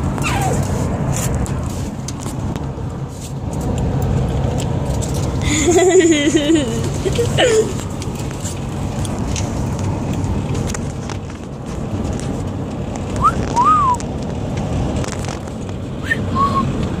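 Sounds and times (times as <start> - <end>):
vehicle road and engine noise: 0.0 - 17.0.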